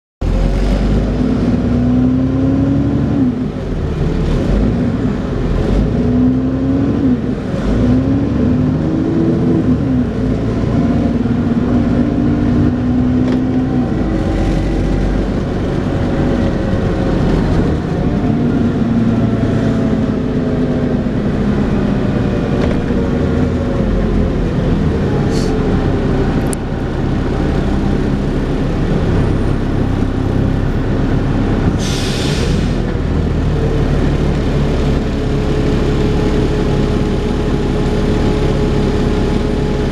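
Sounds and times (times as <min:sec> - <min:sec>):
bus accelerating: 0:00.2 - 0:39.9
whining drivetrain: 0:00.2 - 0:39.9.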